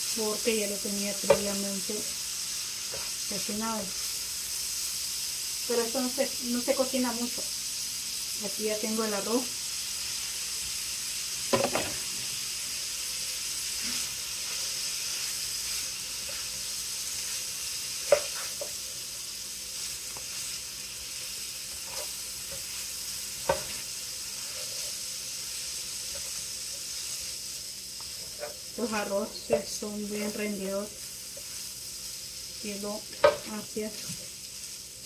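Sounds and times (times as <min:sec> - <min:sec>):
rice sizzling in skillet: 0:00.0 - 0:35.0.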